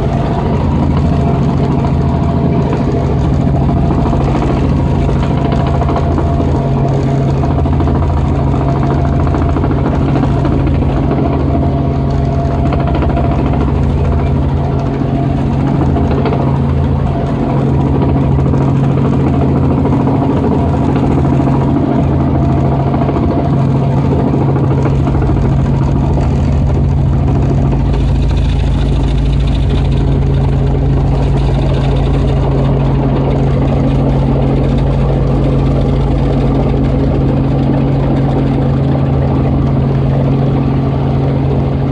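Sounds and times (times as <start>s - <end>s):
deep rumble: 0.0s - 41.9s
helicopter engine and rotors droning: 0.0s - 41.9s.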